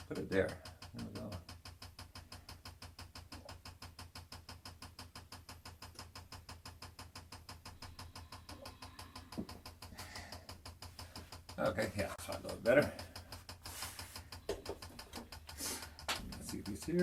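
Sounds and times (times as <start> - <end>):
low machine hum: 0.0 - 17.0
machine ticking rapidly: 0.0 - 17.0.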